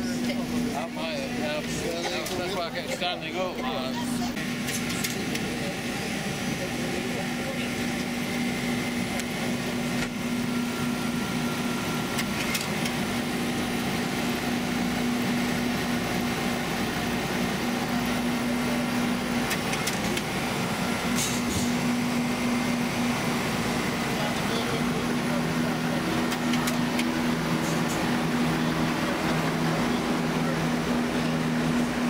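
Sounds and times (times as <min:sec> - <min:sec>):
railcar machinery humming: 0:00.0 - 0:32.0.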